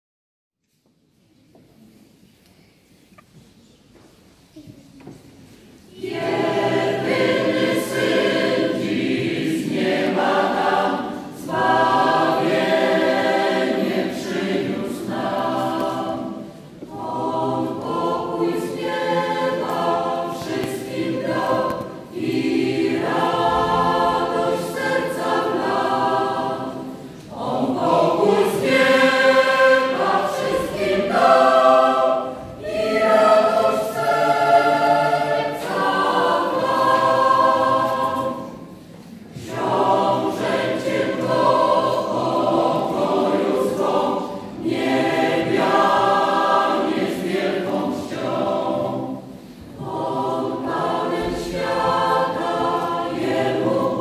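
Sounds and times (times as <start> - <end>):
mixed choir singing unaccompanied: 5.7 - 54.0.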